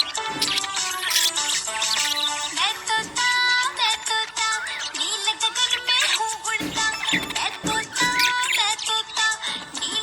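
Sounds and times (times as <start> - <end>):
bright instrumental children's song: 0.0 - 10.0.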